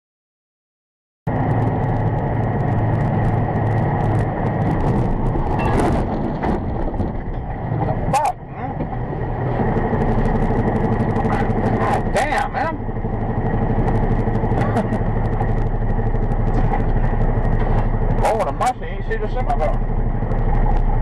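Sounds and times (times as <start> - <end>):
steady high whine: 1.3 - 21.0
truck engine and road rumble: 1.3 - 21.0.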